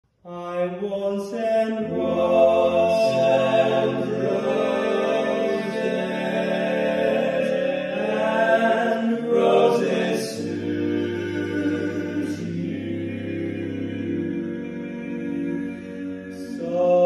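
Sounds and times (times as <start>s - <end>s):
men singing a cappella harmony: 0.3s - 17.0s.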